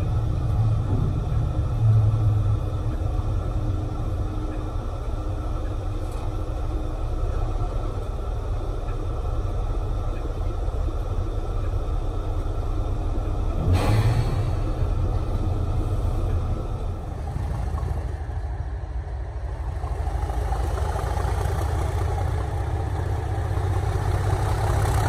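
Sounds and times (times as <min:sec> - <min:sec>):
diesel locomotive engine idling: 0:00.0 - 0:25.0.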